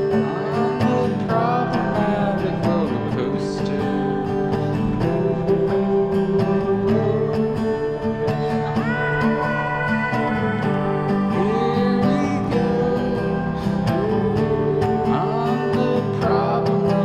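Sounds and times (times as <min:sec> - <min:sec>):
country song with acoustic guitar: 0:00.0 - 0:17.0.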